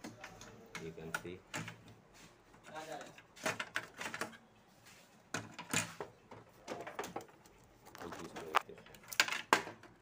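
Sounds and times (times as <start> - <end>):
plastic parts clicking and knocking: 0.0 - 2.0, 2.6 - 4.4, 5.3 - 10.0.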